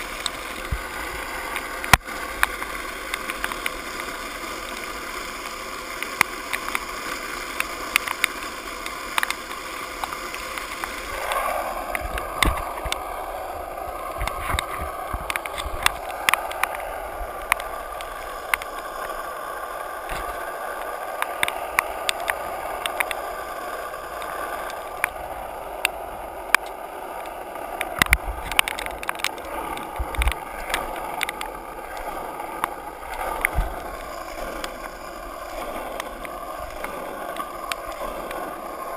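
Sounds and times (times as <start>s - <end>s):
skateboard clicks and knocks: 0.0s - 38.9s
skateboard wheels on wet asphalt: 0.0s - 38.9s.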